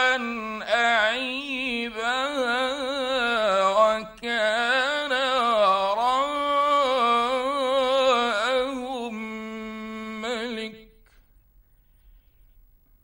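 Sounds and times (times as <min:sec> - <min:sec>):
man reciting in melodic style: 0:00.0 - 0:11.2.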